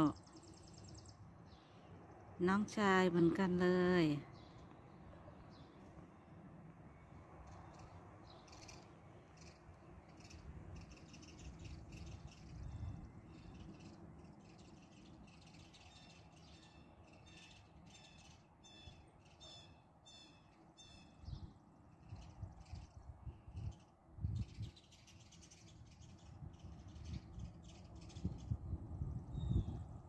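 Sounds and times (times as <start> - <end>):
low outdoor rumble: 0.0 - 30.0
small birds chirping: 0.0 - 30.0.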